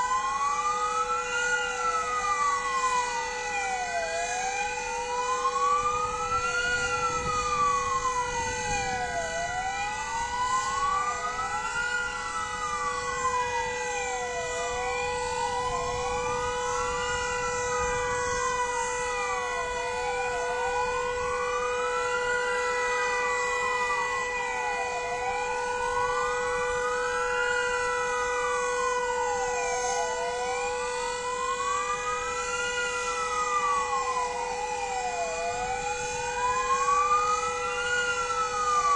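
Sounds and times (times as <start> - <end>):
fire engine sirens wailing: 0.0 - 38.9
steady siren tone: 0.0 - 38.9.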